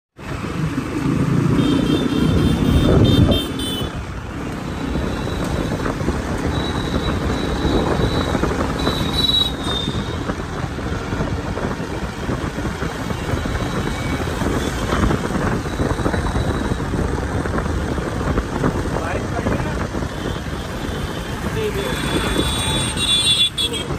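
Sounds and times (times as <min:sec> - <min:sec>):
motorbike engine and tyre noise: 0:00.2 - 0:23.9
wind buffeting microphone: 0:00.2 - 0:23.9.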